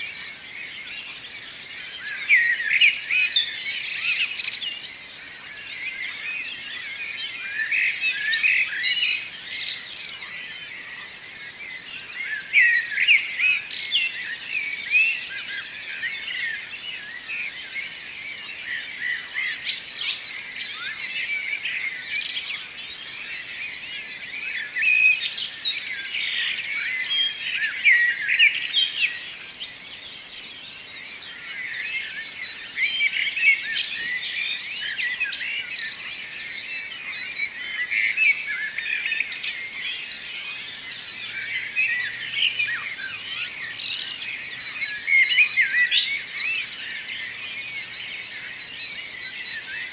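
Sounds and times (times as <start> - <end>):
birds singing and chirping: 0.0 - 49.9.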